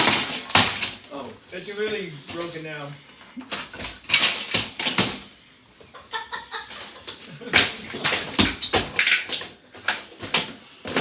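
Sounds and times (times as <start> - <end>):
plastic cracking and clattering: 0.0 - 2.5, 3.2 - 5.4, 6.5 - 11.0.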